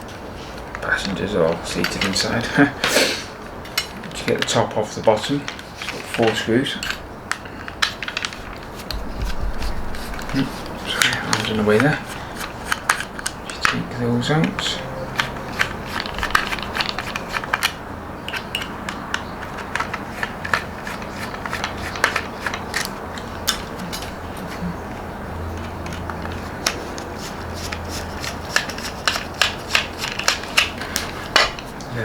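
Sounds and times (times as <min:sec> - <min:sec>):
handling of model coach: 0:00.1 - 0:27.8.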